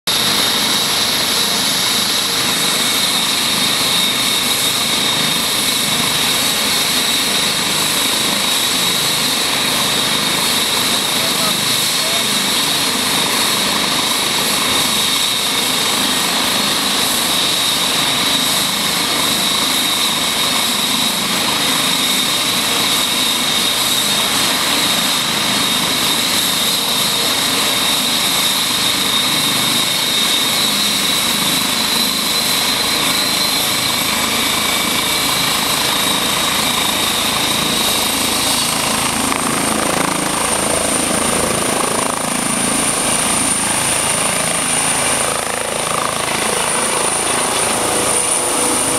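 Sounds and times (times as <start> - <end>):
helicopter rotor noise: 0.0 - 48.9
helicopter turbine whine: 0.1 - 48.9.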